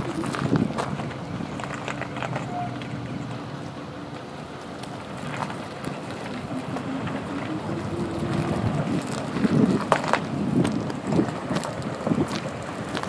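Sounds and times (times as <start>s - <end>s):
wind buffeting microphone: 0.0s - 3.9s, 4.9s - 13.0s.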